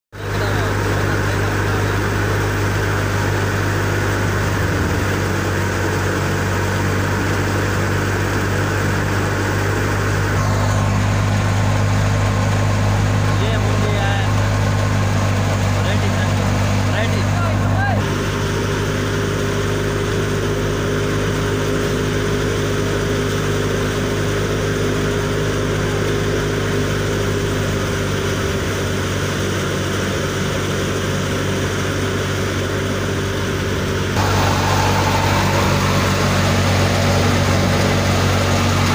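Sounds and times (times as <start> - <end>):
threshing machine droning: 0.1 - 38.9.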